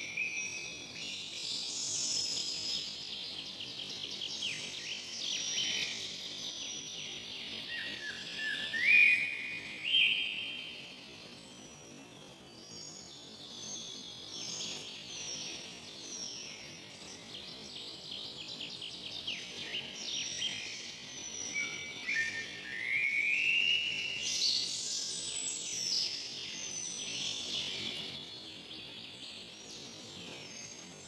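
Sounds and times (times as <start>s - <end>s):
songbirds singing and calling: 0.0s - 31.0s.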